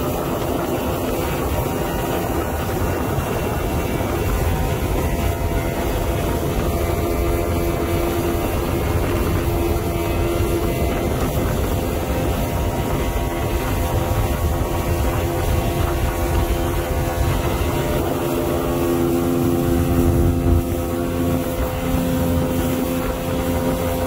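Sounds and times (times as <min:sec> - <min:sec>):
churning wake: 0:00.0 - 0:24.0
outboard engine running: 0:00.0 - 0:24.0
wind on microphone: 0:00.0 - 0:24.0.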